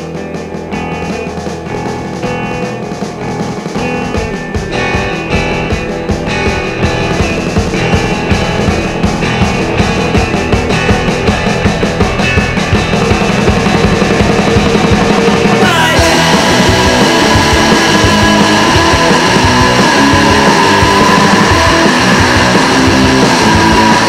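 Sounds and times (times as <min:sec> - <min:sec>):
drums: 0:00.0 - 0:24.0
guitar: 0:00.0 - 0:24.0
rock band playing: 0:00.0 - 0:24.0.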